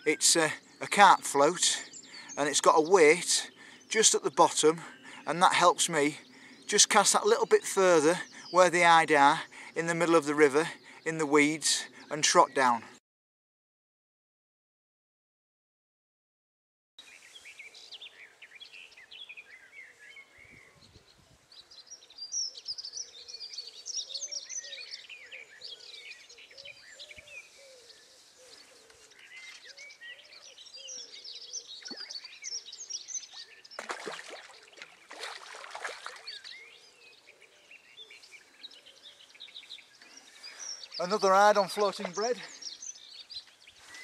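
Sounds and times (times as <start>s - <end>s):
birds singing and chirping: 0.0s - 13.0s, 17.0s - 44.0s.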